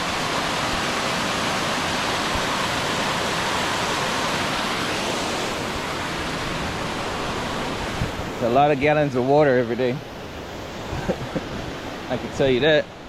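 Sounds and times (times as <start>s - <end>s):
waterfall over rocks: 0.0s - 13.0s.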